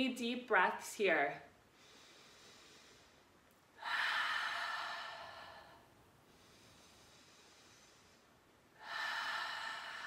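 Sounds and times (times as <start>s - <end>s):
woman breathing out deeply: 1.8s - 10.0s.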